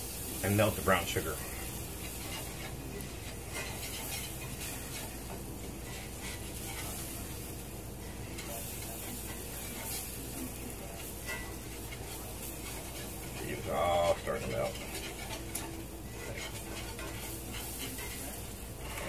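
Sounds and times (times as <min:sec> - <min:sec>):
hot pan sizzling: 0:00.0 - 0:19.0
metal whisk scraping skillet: 0:00.1 - 0:19.0.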